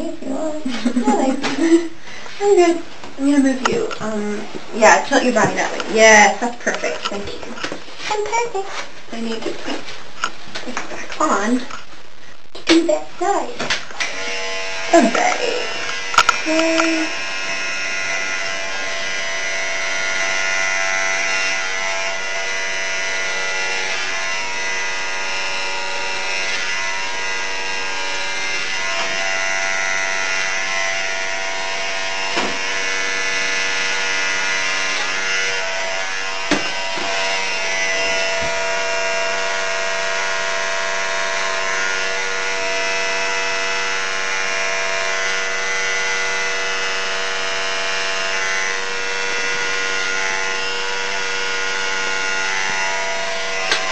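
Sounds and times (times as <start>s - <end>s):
electric hair clippers buzzing: 0.0s - 11.8s, 12.7s - 53.9s.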